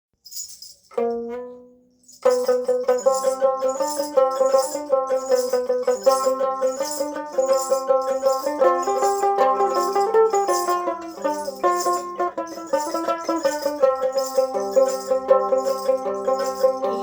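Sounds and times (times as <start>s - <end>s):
plucked lute notes: 1.0s - 17.0s.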